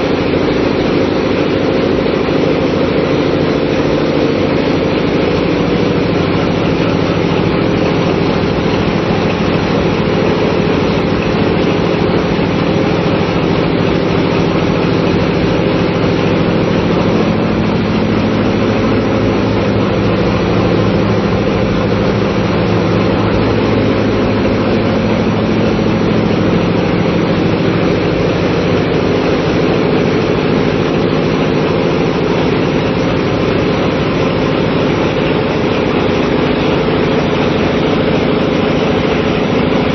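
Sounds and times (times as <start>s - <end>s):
marine diesel machinery droning: 0.0s - 39.9s.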